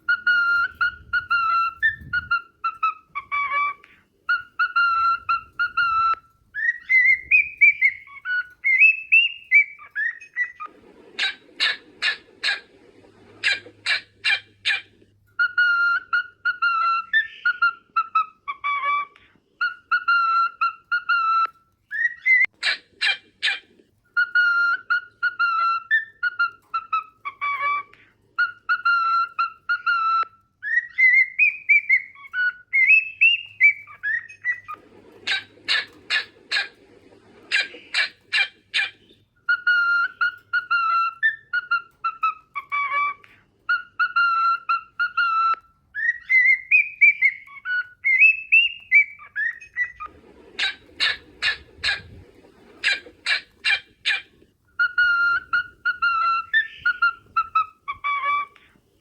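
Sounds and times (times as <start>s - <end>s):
cockatiel whistling: 0.0s - 58.8s.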